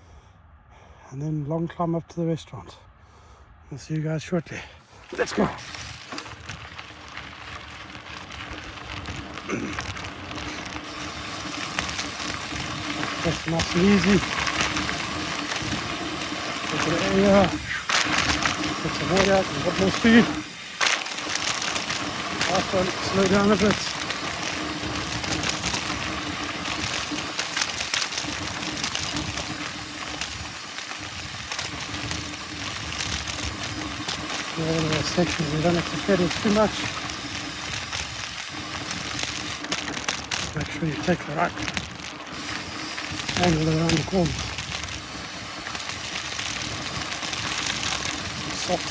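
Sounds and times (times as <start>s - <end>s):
bike tyres crackling on gravel: 4.8s - 48.9s.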